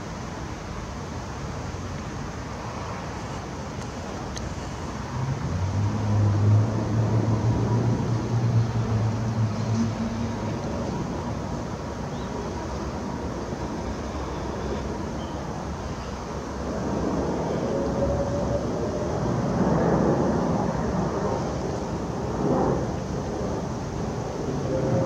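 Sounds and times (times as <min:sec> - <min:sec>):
jet airliner passing overhead: 0:02.5 - 0:25.0.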